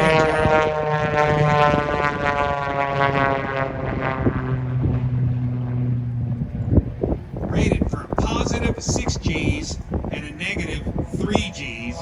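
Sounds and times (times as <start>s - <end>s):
propeller airplane passing overhead: 0.0s - 12.0s.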